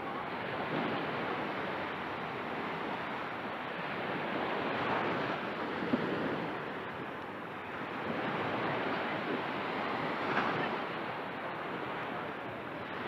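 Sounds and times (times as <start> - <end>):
small waves washing on shore: 0.0 - 13.0.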